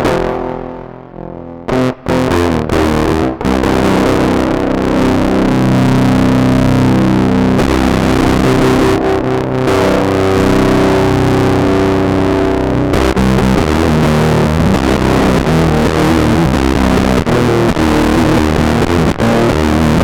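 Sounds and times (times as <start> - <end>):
distorted electric guitar chords: 0.0 - 20.0.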